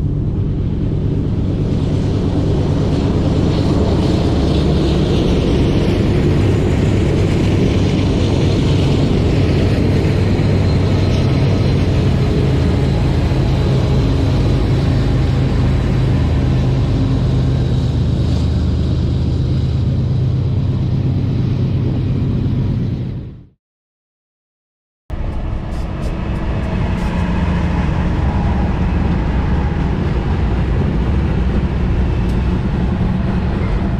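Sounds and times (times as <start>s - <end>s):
train rolling noise: 0.0s - 23.5s, 25.1s - 33.9s
diesel locomotive engine hum: 0.0s - 23.6s, 25.1s - 33.9s.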